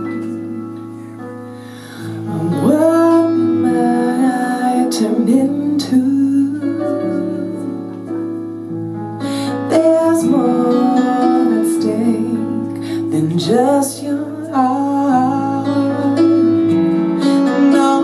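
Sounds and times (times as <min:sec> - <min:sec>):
soft instrumental accompaniment: 0:00.0 - 0:18.0
woman singing jazz ballad: 0:02.2 - 0:08.1, 0:09.4 - 0:18.0.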